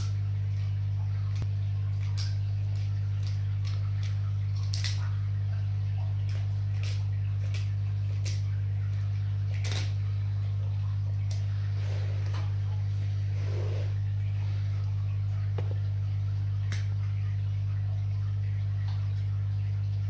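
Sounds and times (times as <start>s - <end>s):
alligator crunching crayfish: 0.0s - 19.6s
steady low hum: 0.0s - 20.0s.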